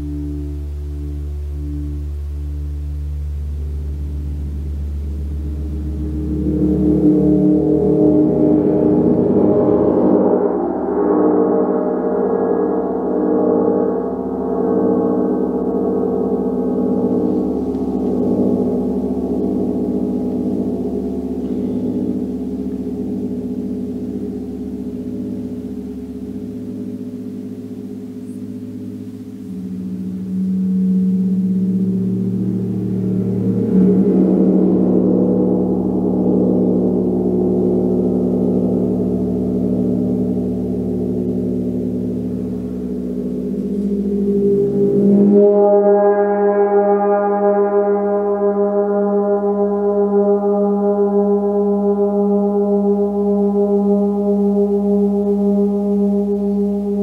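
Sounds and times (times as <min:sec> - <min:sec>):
gong ringing: 0:00.0 - 0:57.0.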